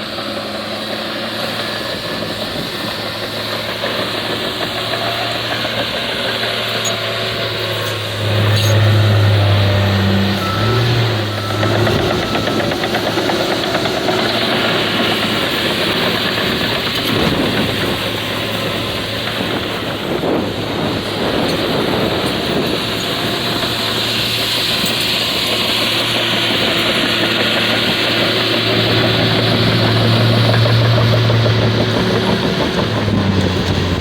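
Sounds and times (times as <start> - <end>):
bulldozer diesel engine droning: 0.0 - 34.0.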